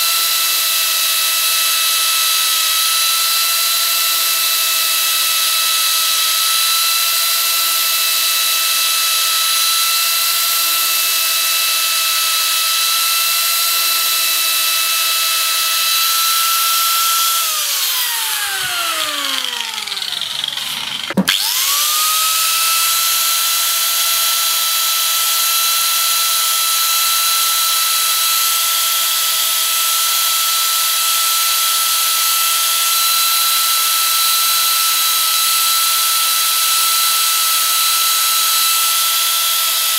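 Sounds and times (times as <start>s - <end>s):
power carver high whine: 0.0s - 39.9s.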